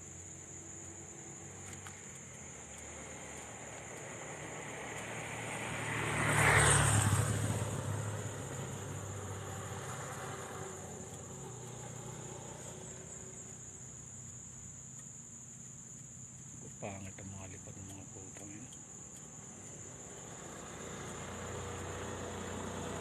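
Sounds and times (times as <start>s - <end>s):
high insect trill: 0.0s - 23.0s
vehicle passing by: 0.9s - 14.4s, 16.6s - 23.0s.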